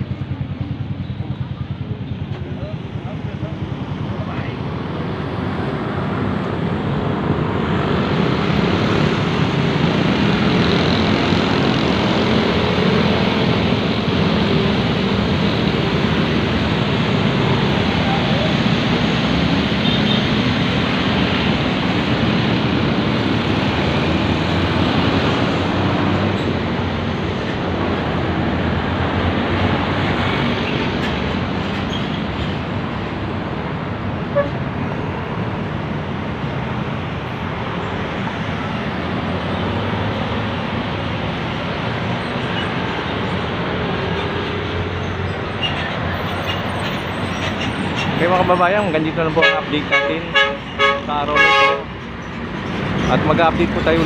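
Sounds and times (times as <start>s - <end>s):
city road traffic: 0.0s - 54.0s.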